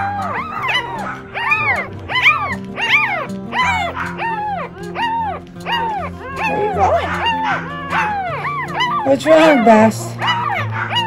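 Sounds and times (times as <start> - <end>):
background music: 0.0 - 11.0
dog yelping: 0.0 - 11.0.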